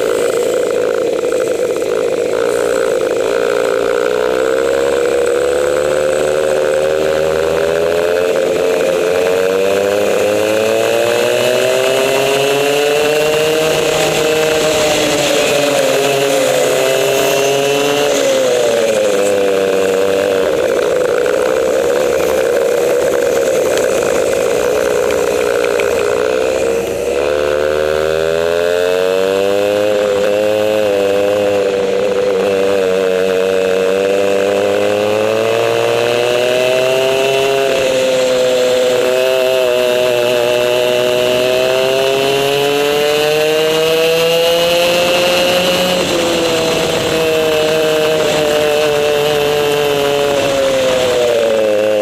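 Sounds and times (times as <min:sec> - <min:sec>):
two-stroke kart engine revving: 0:00.0 - 0:52.0.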